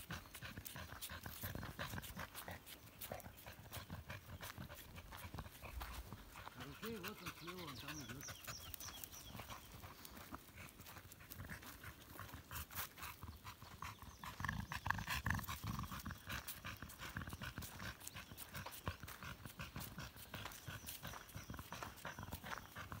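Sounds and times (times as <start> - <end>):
dog panting: 0.0 - 23.0
footsteps on dirt: 0.0 - 23.0.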